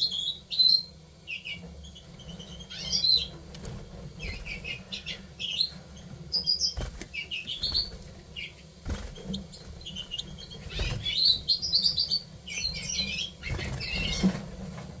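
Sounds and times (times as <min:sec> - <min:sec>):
finches twittering: 0:00.0 - 0:14.5.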